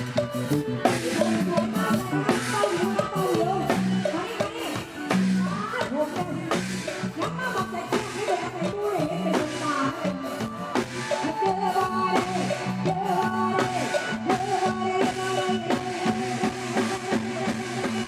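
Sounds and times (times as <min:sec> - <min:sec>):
bass: 0:00.0 - 0:18.0
drum kit beat: 0:00.0 - 0:18.0
sliding melodic lead line: 0:00.0 - 0:18.0.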